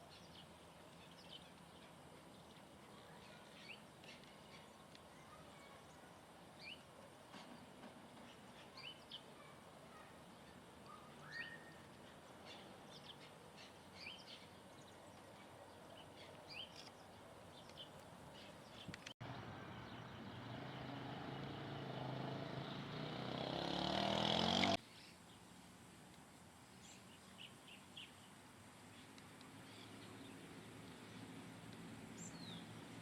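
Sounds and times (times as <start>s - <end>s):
small birds chirping: 0.0s - 25.4s, 26.7s - 33.0s.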